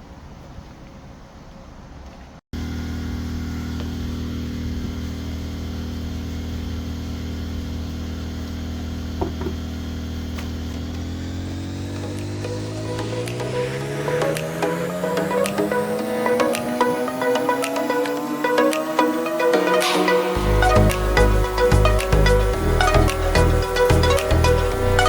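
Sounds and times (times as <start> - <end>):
machine hum with pitched drone: 2.6 - 25.0.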